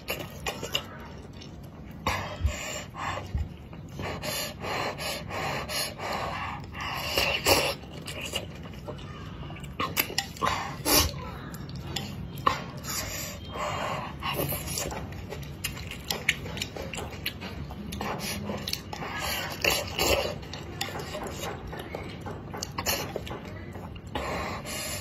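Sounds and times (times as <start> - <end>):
chewing and mouth noises: 0.0 - 25.0.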